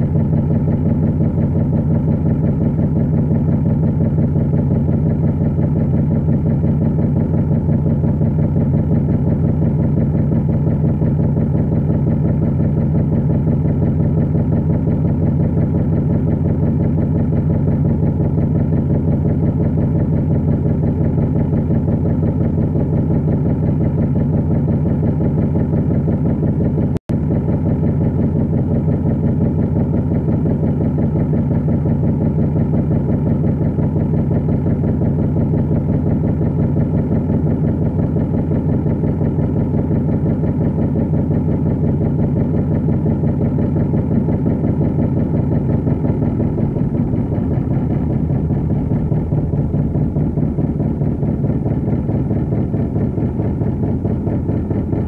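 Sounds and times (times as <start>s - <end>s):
boat engine chugging: 0.0s - 55.0s.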